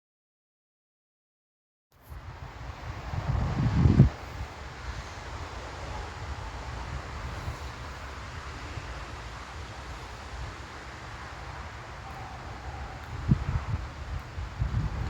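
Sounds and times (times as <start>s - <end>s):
wind buffeting microphone: 2.1s - 15.0s.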